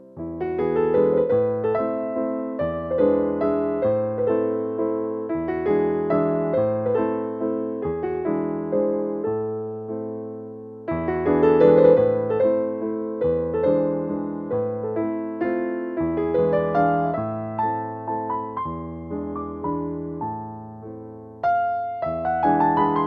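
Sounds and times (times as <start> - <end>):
electric piano playing: 0.0 - 23.0.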